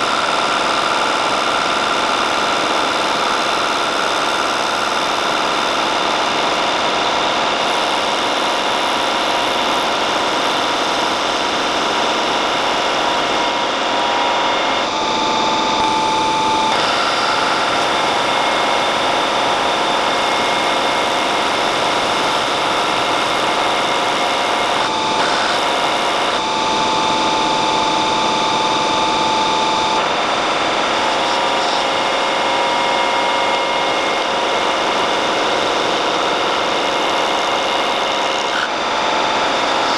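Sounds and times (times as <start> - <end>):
metal lathe whine: 0.0 - 39.9.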